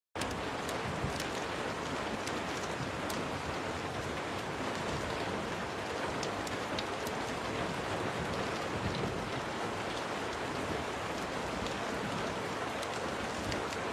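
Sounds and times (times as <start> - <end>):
steady rain falling: 0.2 - 13.9.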